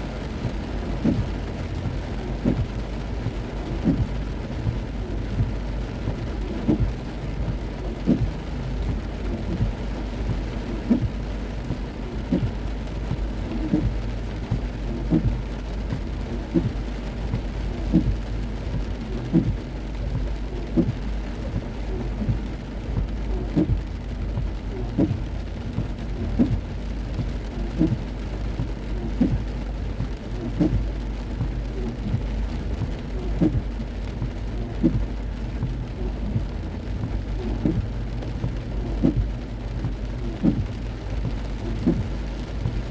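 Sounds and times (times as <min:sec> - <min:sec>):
heavy rain on a car: 0:00.0 - 0:42.9
steady low rumble: 0:00.0 - 0:42.9
windscreen wipers sweeping: 0:00.0 - 0:42.9
soft repeating thump: 0:00.3 - 0:42.9.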